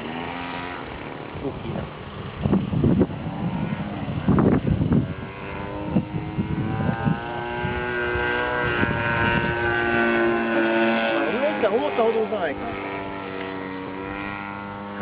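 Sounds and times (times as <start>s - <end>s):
model airplane engine buzzing: 0.0s - 15.0s
wind buffeting microphone: 0.0s - 15.0s.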